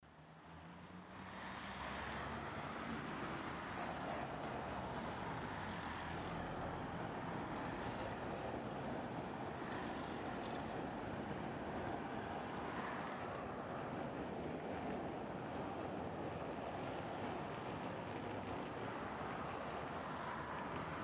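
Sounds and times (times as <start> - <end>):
distant road traffic hum: 0.0 - 21.0.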